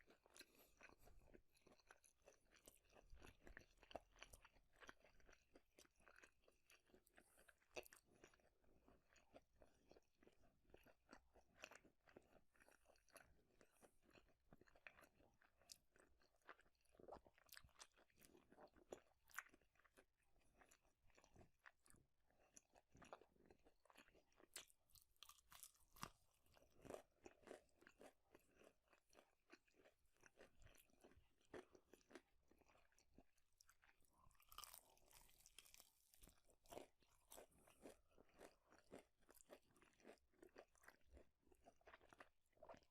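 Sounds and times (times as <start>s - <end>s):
chewing and crunching food: 0.0s - 42.9s.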